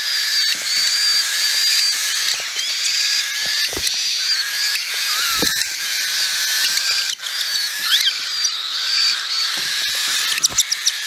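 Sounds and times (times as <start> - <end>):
baby birds raspy hissing: 0.0 - 11.0.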